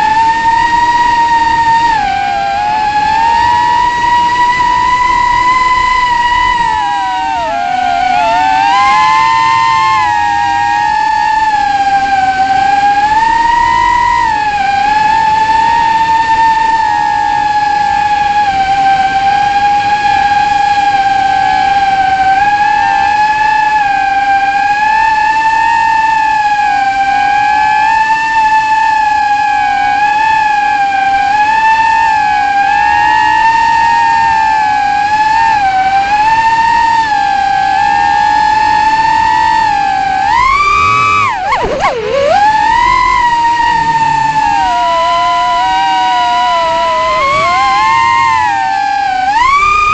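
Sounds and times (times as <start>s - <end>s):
drone motors whining: 0.0s - 49.9s.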